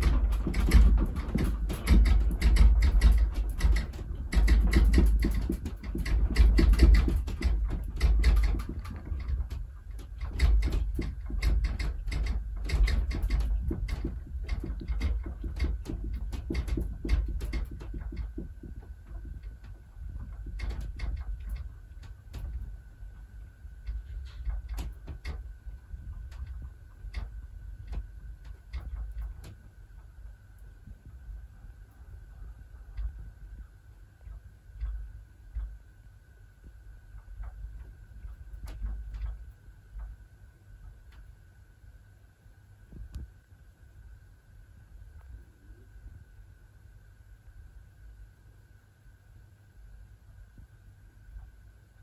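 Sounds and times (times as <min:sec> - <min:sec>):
room creaking and rattling: 0:00.0 - 0:52.0.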